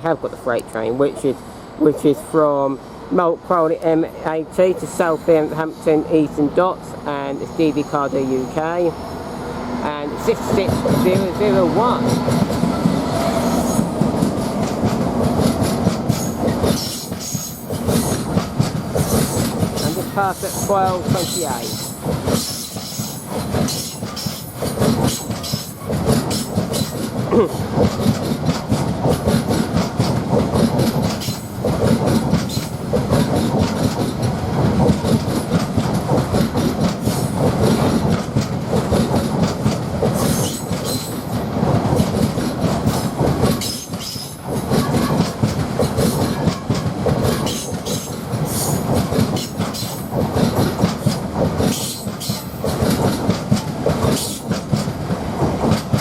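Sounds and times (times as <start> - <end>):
train rumble: 0.0 - 56.0
wheels clacking over rail joints: 9.9 - 56.0.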